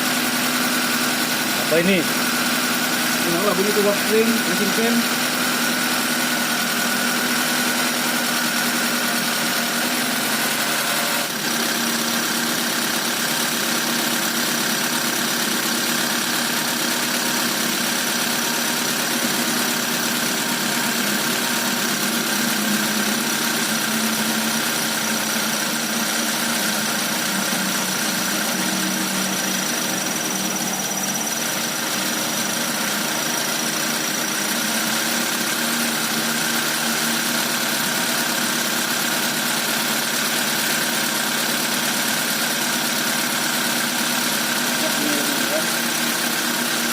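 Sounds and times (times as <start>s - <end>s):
car engine idling: 0.1s - 46.9s.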